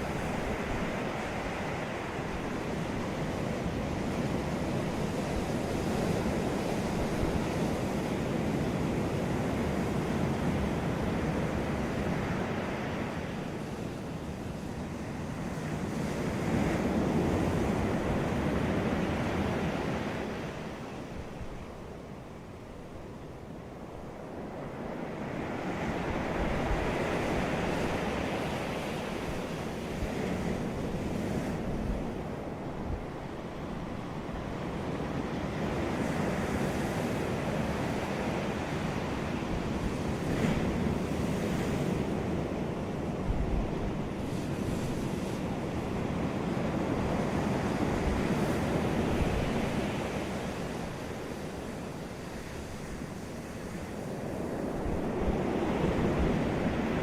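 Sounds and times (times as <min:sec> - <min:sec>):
ocean waves breaking on beach: 0:00.0 - 0:57.0
wind rumble on microphone: 0:00.0 - 0:57.0.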